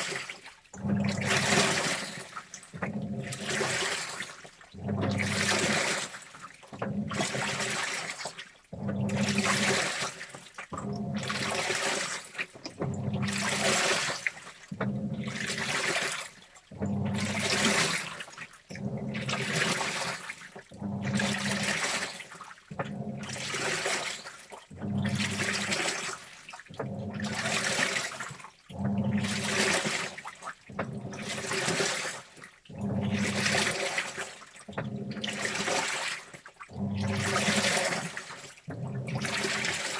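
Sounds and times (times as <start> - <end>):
washing machine drum agitating: 0.0 - 39.9
water sloshing: 0.0 - 39.9.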